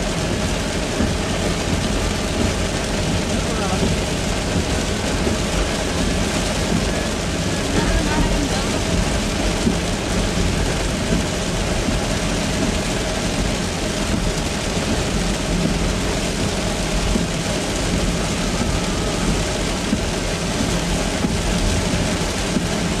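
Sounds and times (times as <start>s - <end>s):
car driving on wet road: 0.0s - 23.0s
heavy rain on car windshield: 0.0s - 23.0s.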